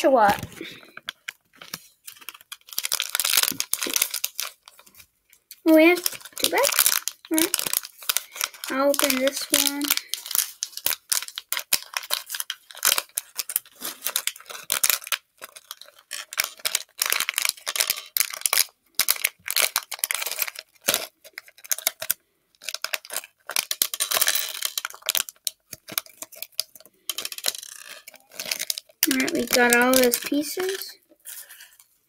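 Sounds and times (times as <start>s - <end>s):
plastic bag crinkling: 0.0s - 32.0s.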